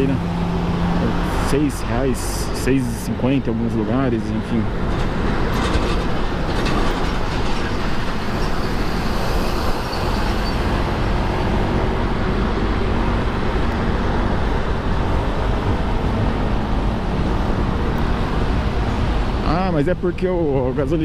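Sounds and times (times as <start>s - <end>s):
passing traffic: 0.0s - 21.0s
tyre road noise: 0.0s - 21.0s.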